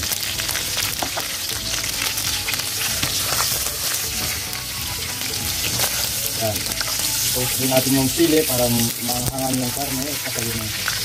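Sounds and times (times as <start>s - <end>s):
meat frying in a wok: 0.0s - 11.0s.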